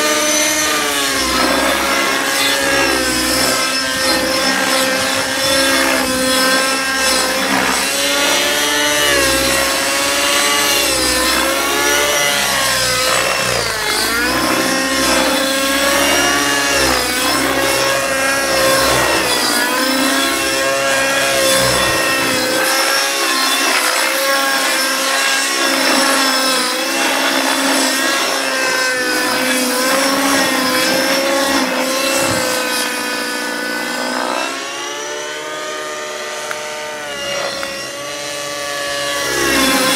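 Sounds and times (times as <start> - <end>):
rc helicopter engine and rotors whining: 0.0 - 39.9.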